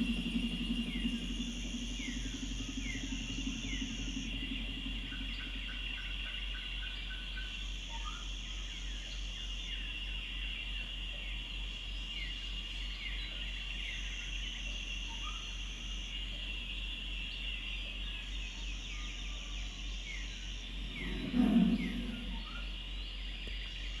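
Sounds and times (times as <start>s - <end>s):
high insect drone: 0.0s - 23.8s.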